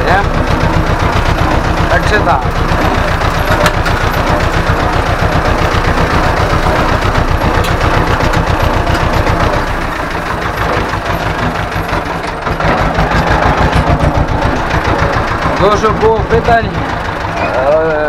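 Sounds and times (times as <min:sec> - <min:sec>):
tractor diesel engine chugging: 0:00.0 - 0:18.0.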